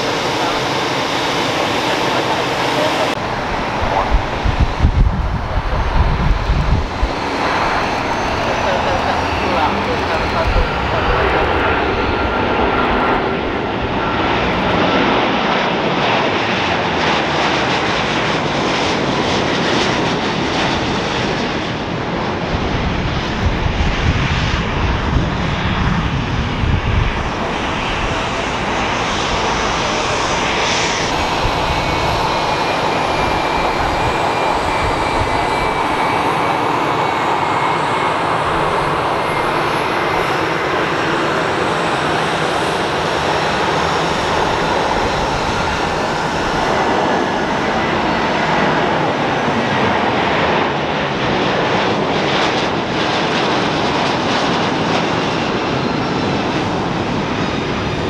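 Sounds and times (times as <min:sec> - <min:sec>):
falling jet whine: 0:00.0 - 0:58.0
jet engines at takeoff power: 0:00.0 - 0:58.0.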